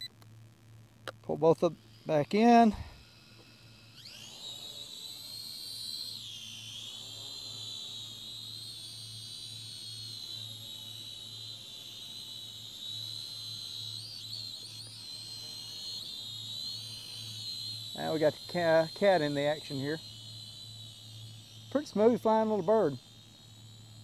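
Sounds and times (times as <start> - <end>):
toy drone propellers whining: 1.0 - 24.0.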